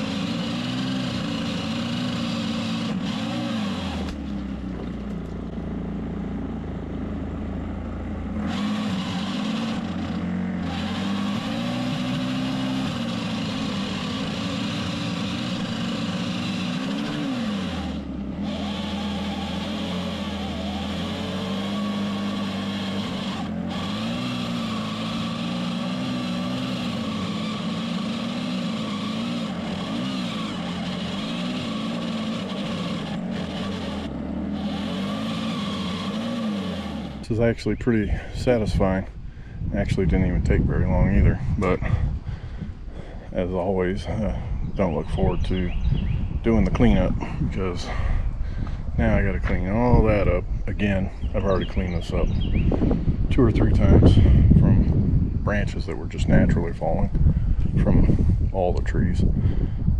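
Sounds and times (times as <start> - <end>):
small engine revving: 0.0 - 59.9.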